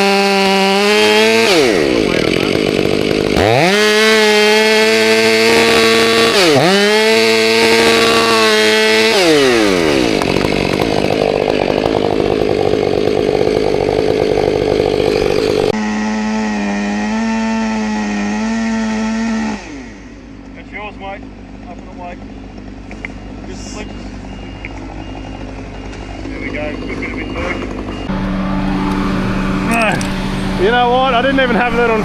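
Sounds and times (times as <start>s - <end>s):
chainsaw running: 0.0s - 32.0s.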